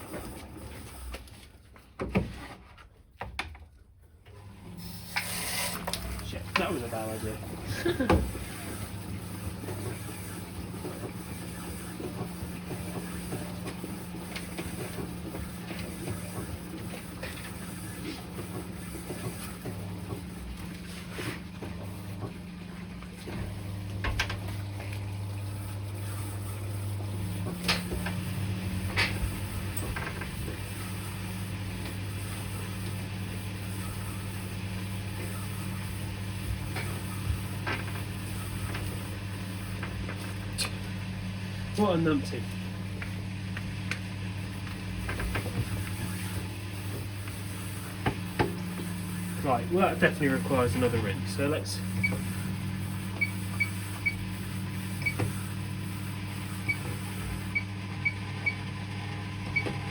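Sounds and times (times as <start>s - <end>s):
washing machine motor hum: 0.0s - 1.9s, 4.0s - 59.9s.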